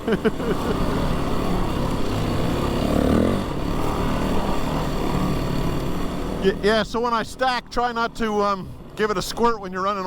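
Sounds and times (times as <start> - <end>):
dirt bike engine revving: 0.0 - 9.5.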